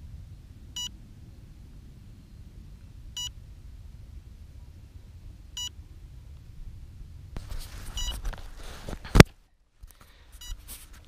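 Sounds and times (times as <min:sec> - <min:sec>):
steady low rumble: 0:00.0 - 0:10.7.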